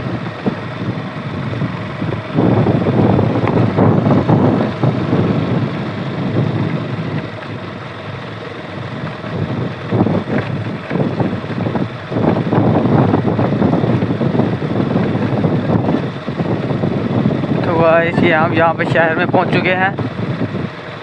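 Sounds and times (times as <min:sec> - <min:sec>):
motorcycle engine: 0:00.0 - 0:21.0
road noise: 0:00.0 - 0:21.0
wind buffeting microphone: 0:00.0 - 0:21.0.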